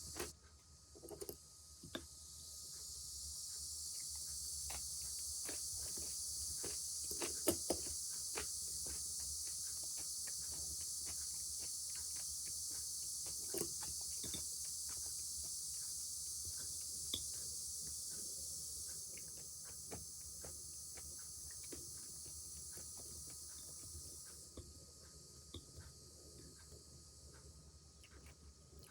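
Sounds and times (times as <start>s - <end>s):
cicadas buzzing: 0.0s - 28.9s.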